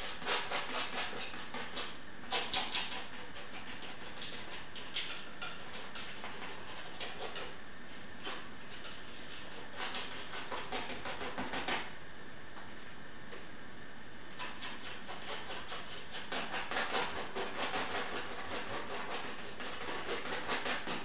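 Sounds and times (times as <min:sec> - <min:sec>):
palette knife scraping paint: 0:00.0 - 0:07.6, 0:08.2 - 0:11.9, 0:14.3 - 0:21.0.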